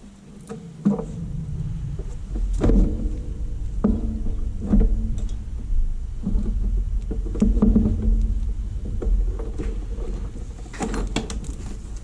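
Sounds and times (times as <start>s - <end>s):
low rubbing rumble: 0.7s - 12.0s
soft knocks and bumps: 0.8s - 12.0s.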